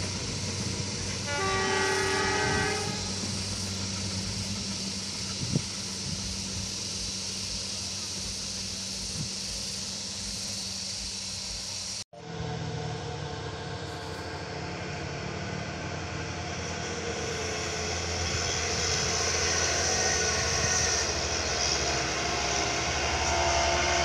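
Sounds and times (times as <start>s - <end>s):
truck diesel engines pulling hard: 0.0s - 24.0s.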